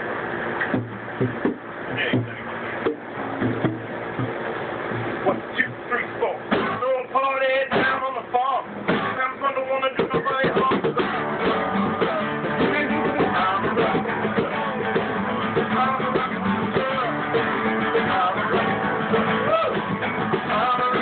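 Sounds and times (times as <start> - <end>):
strummed acoustic guitar: 0.0 - 21.0
upright bass: 0.0 - 21.0.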